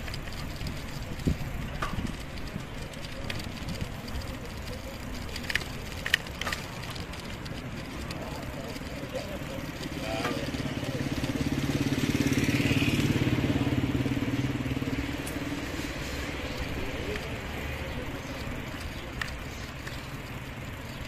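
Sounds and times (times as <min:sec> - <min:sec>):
passing vehicle engine: 0:00.0 - 0:21.0.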